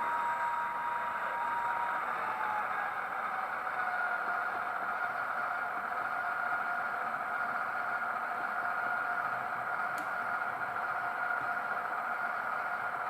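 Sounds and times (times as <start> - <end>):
model diesel engine sound drone: 0.0 - 13.0.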